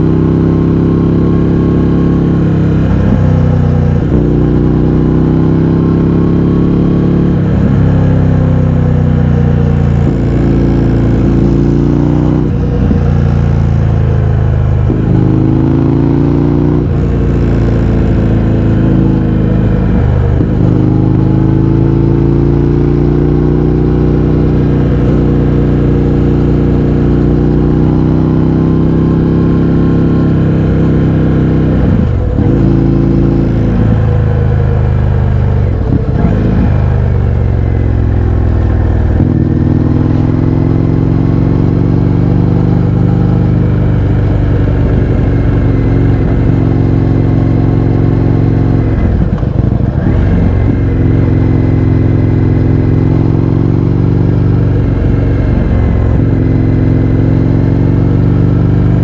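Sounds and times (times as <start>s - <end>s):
loud motorcycle engine: 0.0s - 59.0s.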